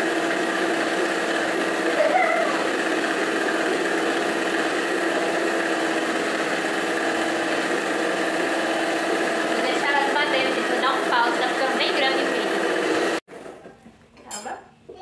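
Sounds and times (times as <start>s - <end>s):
stand mixer motor hum: 0.0s - 13.2s.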